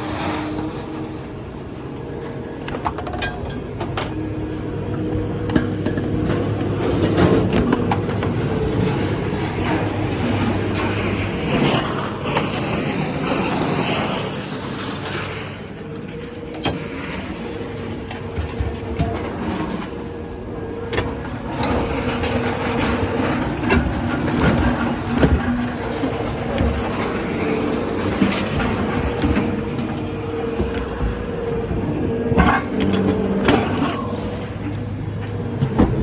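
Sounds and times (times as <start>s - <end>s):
large engine running: 0.0s - 36.0s.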